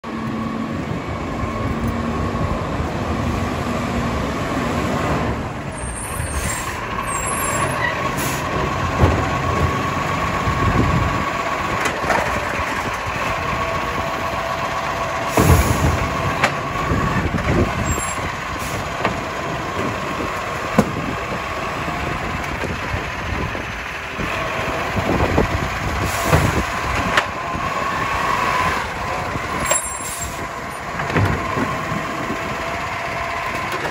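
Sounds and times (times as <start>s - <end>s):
garbage truck engine running: 0.0s - 33.9s.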